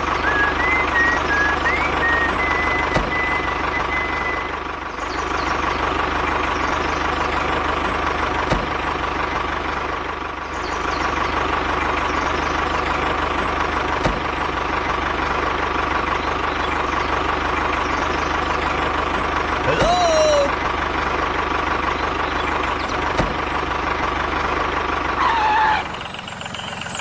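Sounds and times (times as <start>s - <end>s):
machine chugging: 0.0s - 25.2s.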